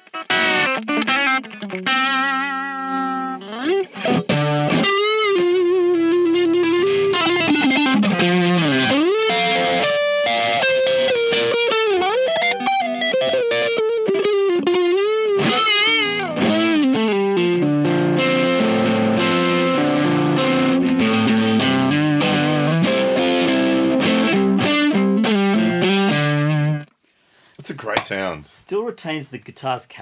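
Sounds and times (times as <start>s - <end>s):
overdriven electric guitar: 0.0s - 26.8s.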